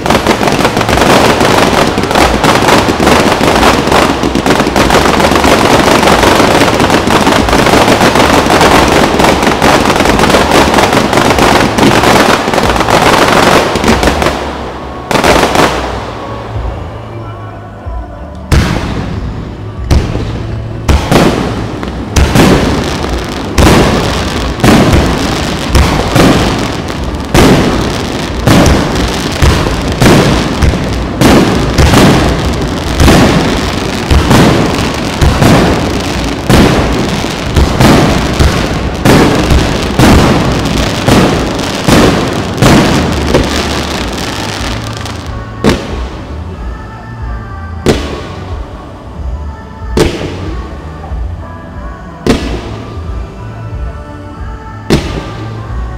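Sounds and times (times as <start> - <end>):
fireworks booming: 0.0 - 16.8, 18.5 - 48.7
fireworks crackling: 0.0 - 17.0, 18.4 - 53.8.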